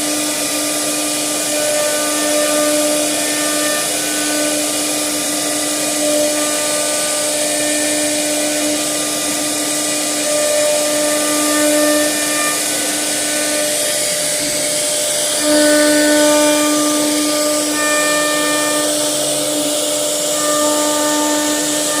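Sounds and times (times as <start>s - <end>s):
motor whine changing pitch: 0.0s - 22.0s
router spindle hissing: 0.0s - 22.0s.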